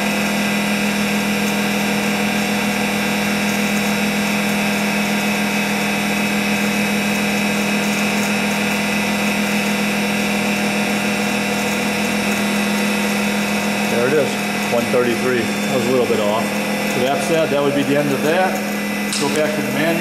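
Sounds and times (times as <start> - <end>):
surface grinder humming and hissing: 0.0 - 20.0.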